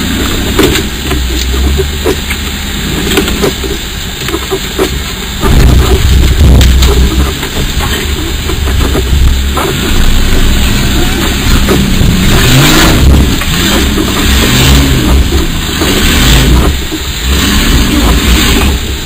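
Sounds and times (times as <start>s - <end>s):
engine revving under heavy load: 0.0s - 19.0s.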